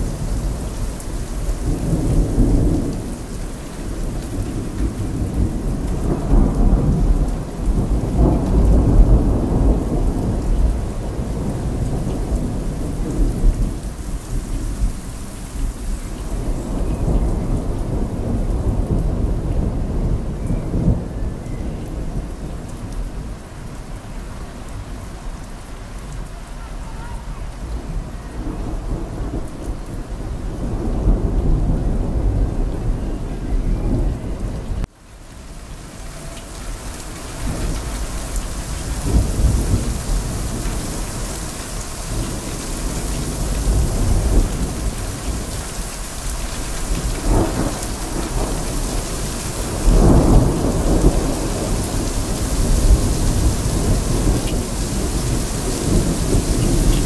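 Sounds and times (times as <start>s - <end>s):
rolling thunder: 0.0s - 25.2s, 27.2s - 34.9s, 36.0s - 57.0s
heavy rain falling: 0.0s - 57.0s.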